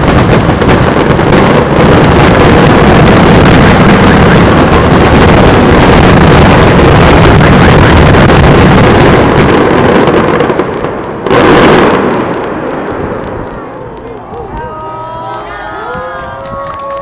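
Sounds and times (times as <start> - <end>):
fireworks bangs and crackle: 0.0 - 17.0.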